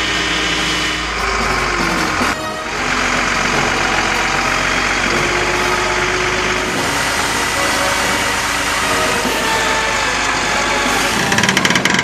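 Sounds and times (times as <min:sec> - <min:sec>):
heavy diesel truck engine: 0:00.0 - 0:12.0.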